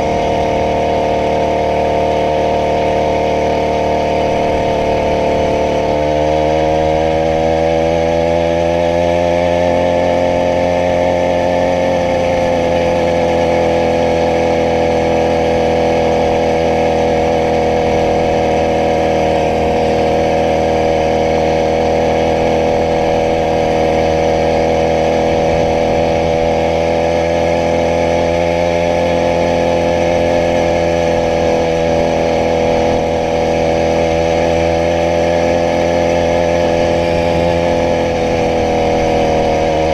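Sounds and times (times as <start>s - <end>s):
two-stroke bicycle engine running: 0.0s - 39.9s.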